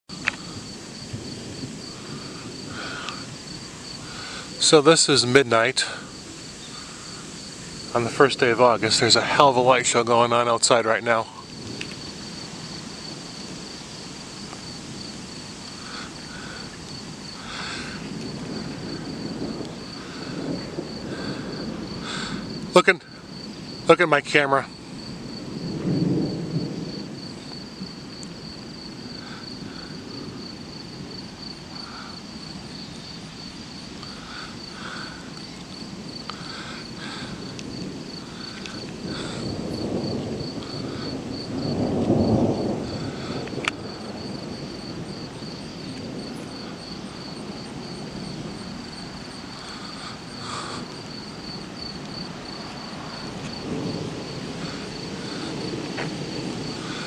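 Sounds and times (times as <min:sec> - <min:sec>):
night insects chirping: 0:00.1 - 0:57.0
thunder rumbling: 0:00.1 - 0:57.0.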